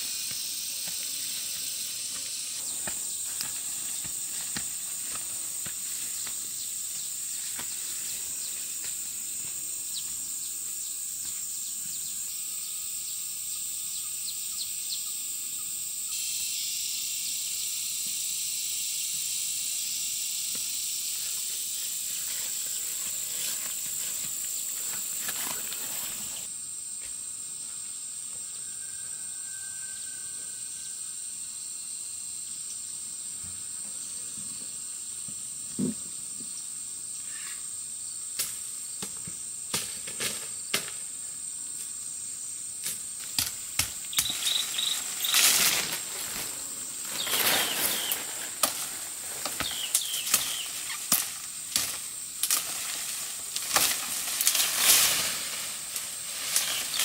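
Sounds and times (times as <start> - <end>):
crickets chirping shrilly: 0.0 - 57.0.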